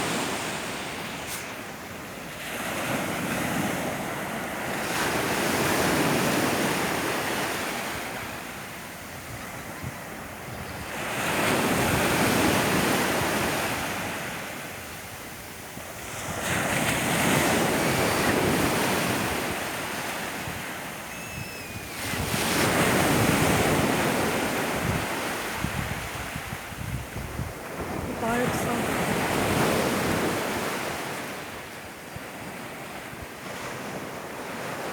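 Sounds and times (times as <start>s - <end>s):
sea waves breaking on beach: 0.0s - 34.9s.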